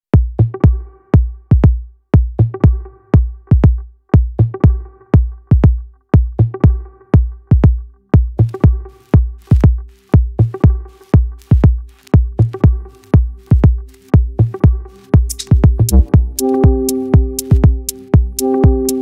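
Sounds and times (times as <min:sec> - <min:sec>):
deep kick drum: 0:00.2 - 0:19.0.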